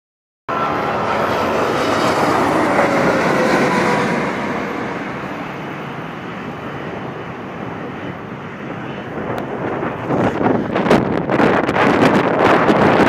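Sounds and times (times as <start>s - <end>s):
jet airliner passing overhead: 0.5s - 13.0s.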